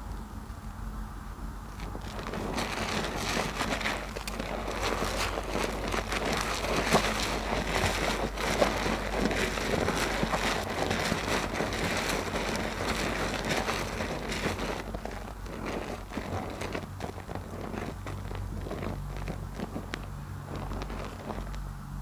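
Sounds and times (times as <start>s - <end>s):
foam crackling: 1.7s - 22.0s
loofah squelching in lather: 1.8s - 21.5s.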